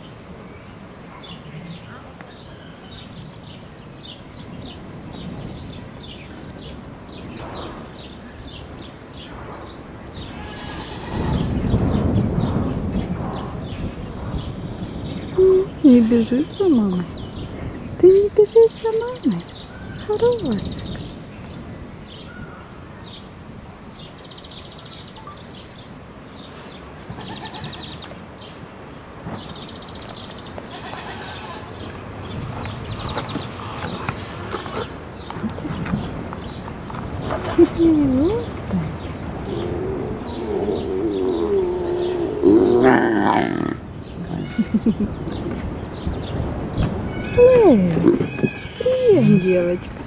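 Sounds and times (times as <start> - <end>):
outdoor background hiss: 0.0 - 50.0
small birds chirping: 0.0 - 50.0.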